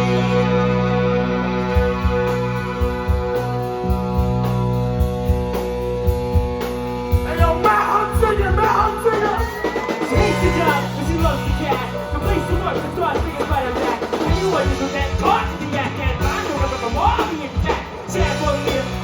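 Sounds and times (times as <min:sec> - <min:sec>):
lead guitar line: 0:00.0 - 0:19.0
live rock band playing: 0:00.0 - 0:19.0.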